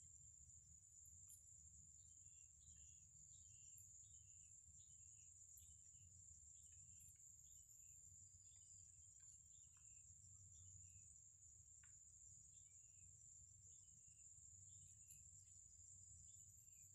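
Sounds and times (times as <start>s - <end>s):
bird chirps: 0.0s - 16.9s
insects trilling: 0.0s - 16.9s.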